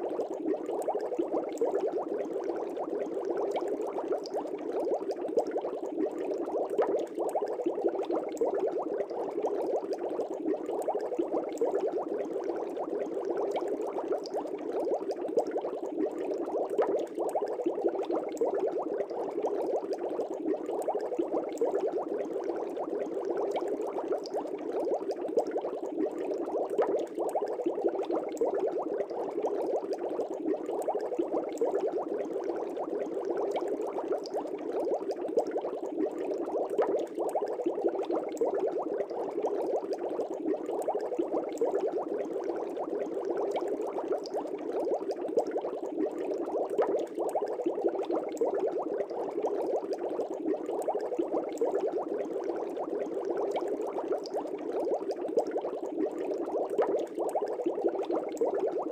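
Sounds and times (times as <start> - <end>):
air bubbles in aquarium water: 0.0 - 58.9.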